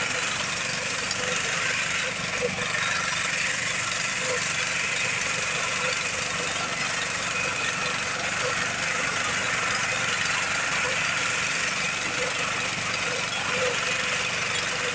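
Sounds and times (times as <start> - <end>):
small engine running under load: 0.0 - 14.9.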